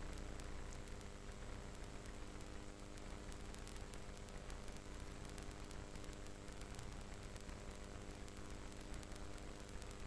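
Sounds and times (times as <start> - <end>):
faint electrical hum: 0.0 - 10.0
light static crackle: 0.0 - 10.0
low steady hiss: 0.0 - 10.0.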